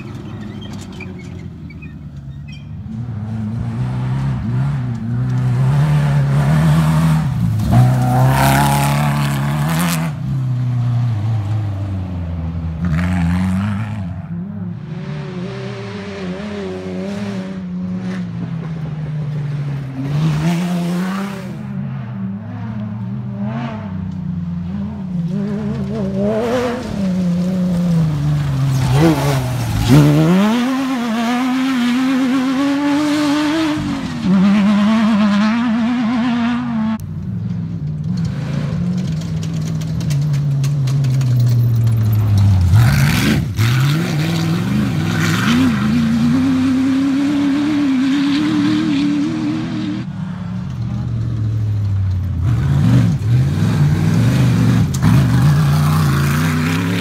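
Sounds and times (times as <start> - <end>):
racing buggy engines revving: 0.0 - 57.0.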